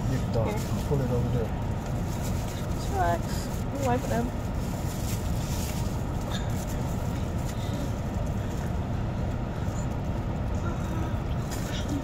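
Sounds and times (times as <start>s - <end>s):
car engine rumbling inside cabin: 0.0s - 12.0s.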